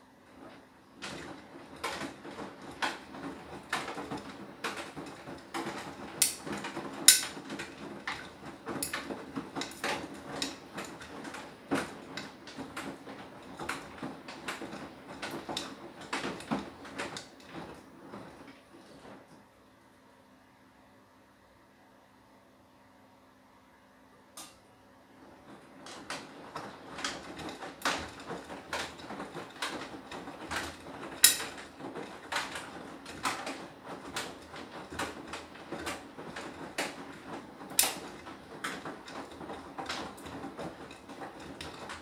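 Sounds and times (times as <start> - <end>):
washing machine drum tumbling clunks: 0.0 - 19.3, 25.1 - 42.0
faint machine hum: 0.0 - 42.0.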